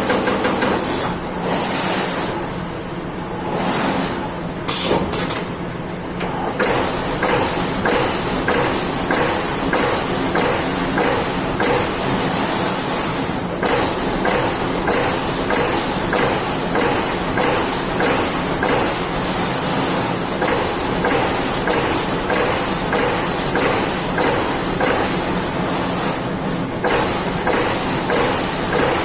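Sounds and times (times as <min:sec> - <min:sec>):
punch press hitting sheet metal: 0:00.0 - 0:02.2, 0:06.2 - 0:29.0.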